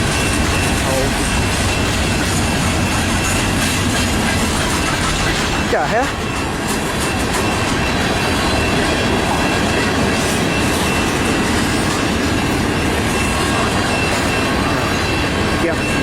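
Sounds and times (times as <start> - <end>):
freight train wheels clickety-clack: 0.0 - 16.0.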